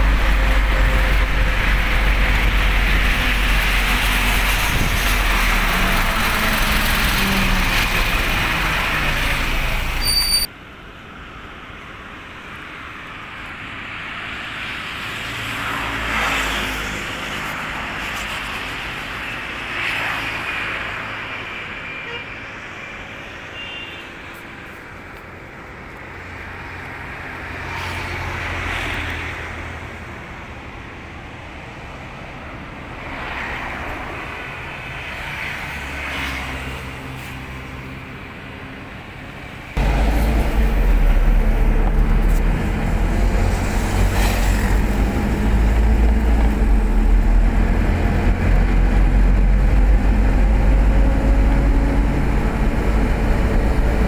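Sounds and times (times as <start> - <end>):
road and wind noise in vehicle: 0.0 - 54.0
traffic passing on bridge: 0.0 - 54.0.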